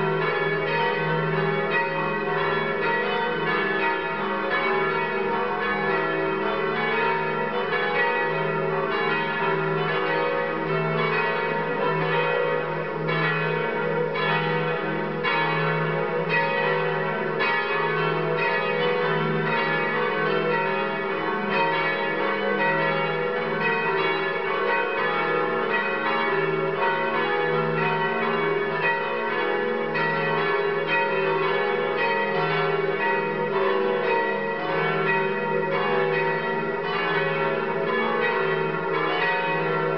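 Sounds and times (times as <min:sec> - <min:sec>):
cathedral bells pealing: 0:00.0 - 0:39.9.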